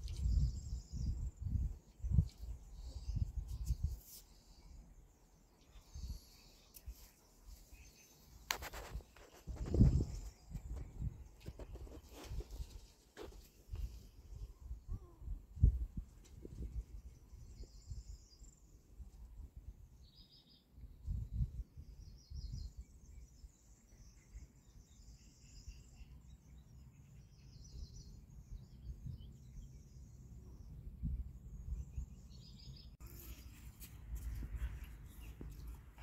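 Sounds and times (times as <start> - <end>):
faint birds chirping: 0.0 - 36.0.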